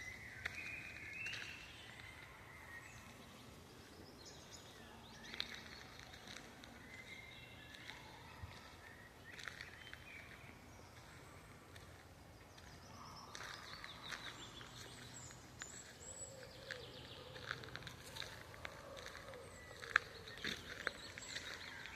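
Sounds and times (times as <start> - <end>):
songbirds chirping: 0.0 - 21.9.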